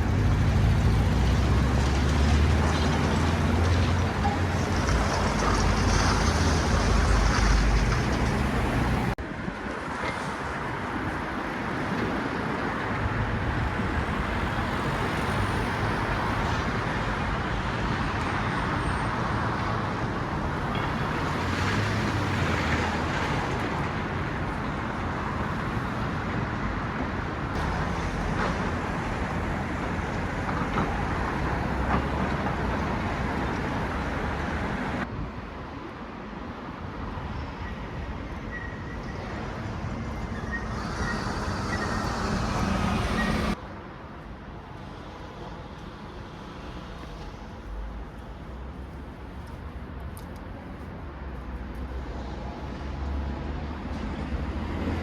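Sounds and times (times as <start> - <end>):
road traffic noise: 0.0 - 55.0.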